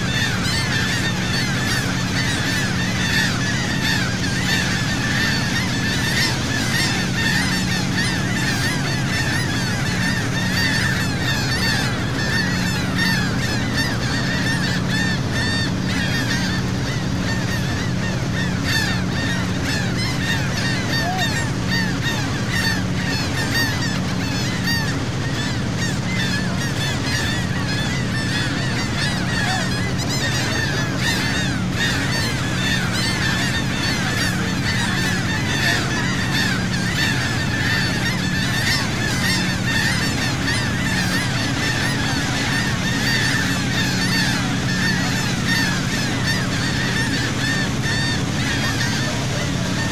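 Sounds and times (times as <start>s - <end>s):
boat engine drone: 0.0s - 49.9s
seagulls calling: 0.0s - 49.9s.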